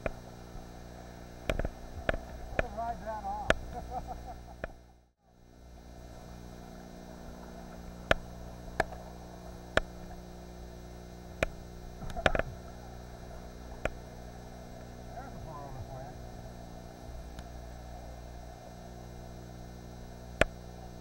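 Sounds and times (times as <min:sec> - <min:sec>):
steady electrical hum: 0:00.0 - 0:21.0.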